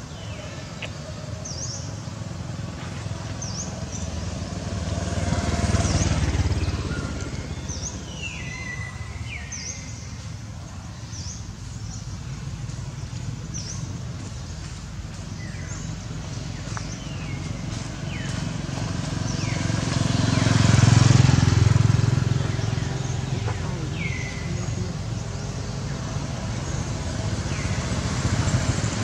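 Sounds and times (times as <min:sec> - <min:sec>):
motor vehicle rumble: 0:00.0 - 0:29.0
bird chirping: 0:05.7 - 0:29.0.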